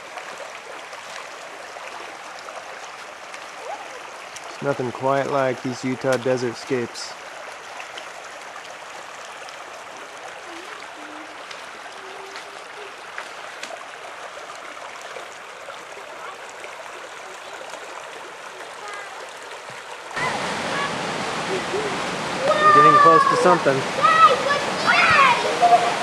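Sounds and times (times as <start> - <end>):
creek water rushing over stones: 0.0 - 26.0.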